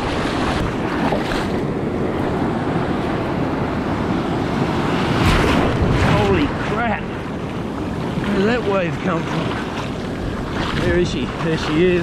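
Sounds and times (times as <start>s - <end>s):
surf washing in shallows: 0.0s - 12.0s
wind buffeting microphone: 0.0s - 12.0s.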